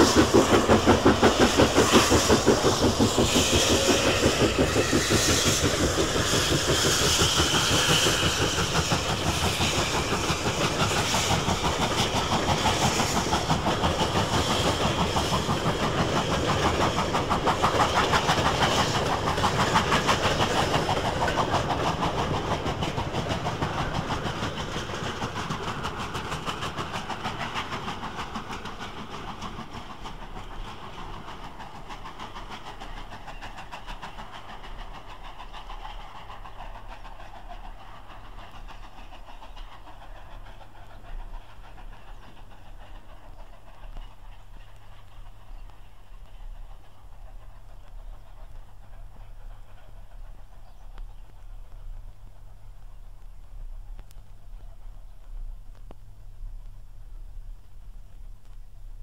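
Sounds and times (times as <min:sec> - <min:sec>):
steam locomotive exhaust beating: 0:00.0 - 0:59.0.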